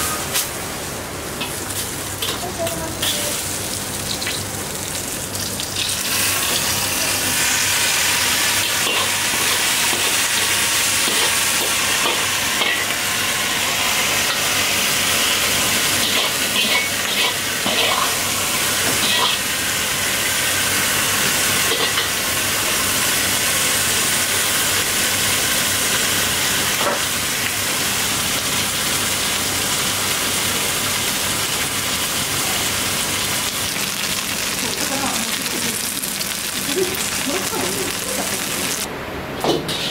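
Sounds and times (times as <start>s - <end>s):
sauce sizzling in hot bowl: 0.1s - 38.9s.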